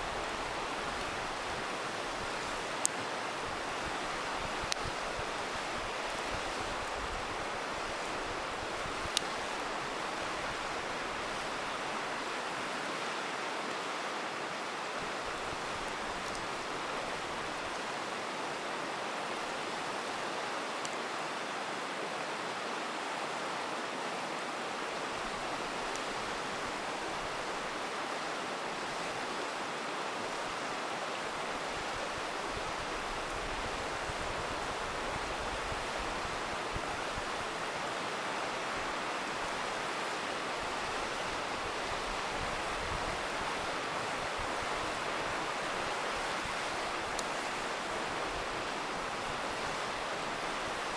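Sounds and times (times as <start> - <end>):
river rushing: 0.0 - 50.9.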